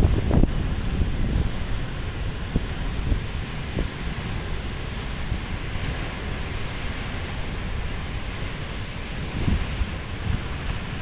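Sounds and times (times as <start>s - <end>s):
surf breaking on rocks: 0.0s - 11.0s
wind buffeting microphone: 0.0s - 11.0s.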